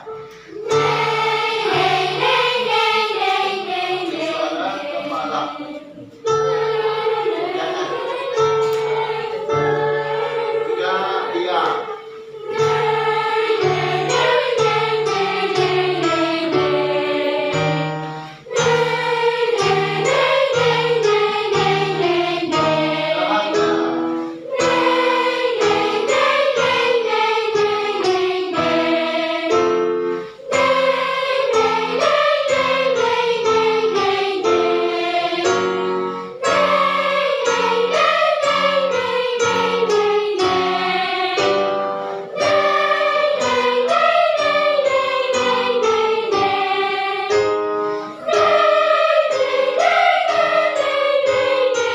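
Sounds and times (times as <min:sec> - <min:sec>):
children's choir singing: 0:00.0 - 0:51.9
instrumental accompaniment: 0:00.0 - 0:51.9.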